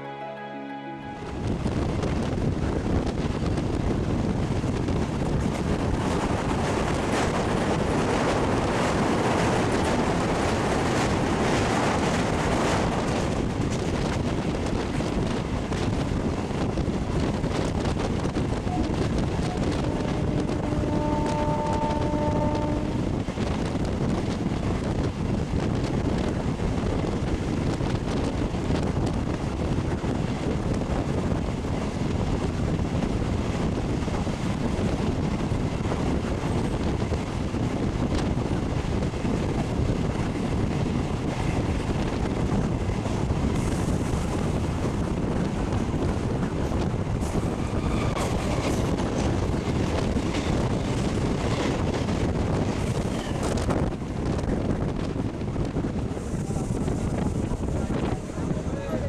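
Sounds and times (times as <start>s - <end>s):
electric train rumbling: 0.0s - 59.0s
wind rushing: 1.2s - 58.8s
passing train clatter: 1.2s - 59.0s
wind buffeting microphone: 1.3s - 59.0s.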